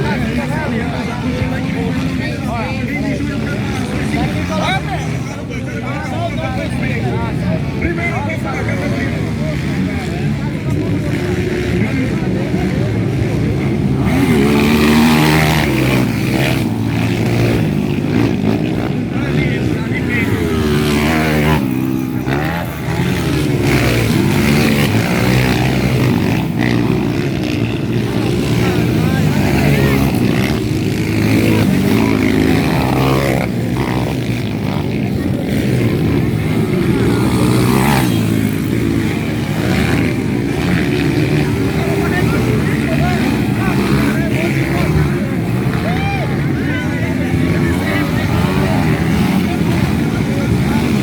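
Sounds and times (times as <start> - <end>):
motocross bike engines revving: 0.0 - 51.0.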